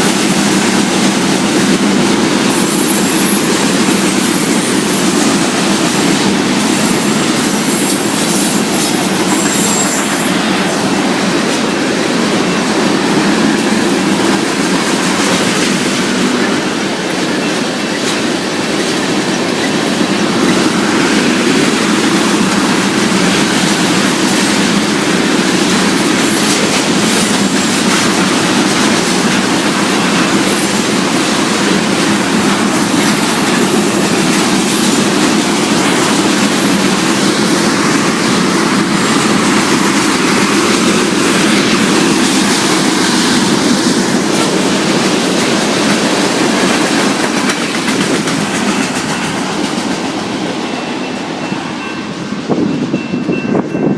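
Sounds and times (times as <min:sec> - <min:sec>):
train wheels rumbling on track: 0:00.0 - 0:53.9.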